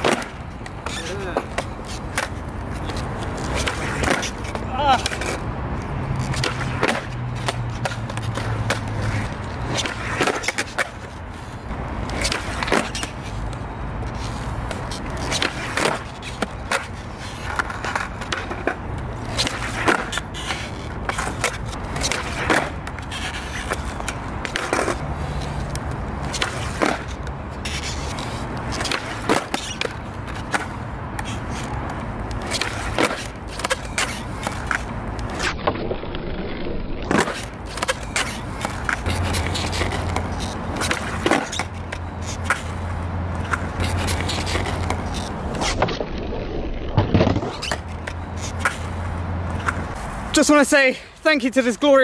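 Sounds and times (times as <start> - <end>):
skateboard cracks and clacks: 0.0 - 50.6
skateboard wheels rolling on concrete: 0.0 - 52.0.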